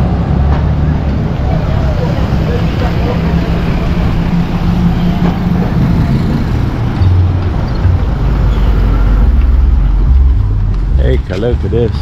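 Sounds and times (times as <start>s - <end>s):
low rumble of passing traffic: 0.0s - 12.0s
vehicle engine hum: 0.0s - 12.0s.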